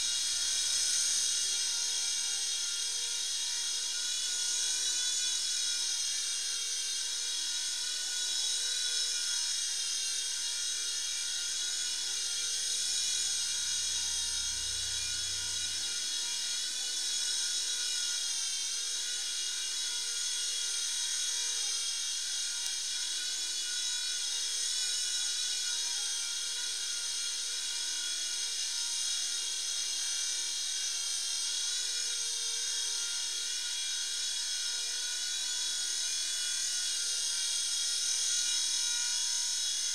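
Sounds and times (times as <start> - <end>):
toy helicopter motor whine: 0.0 - 39.9.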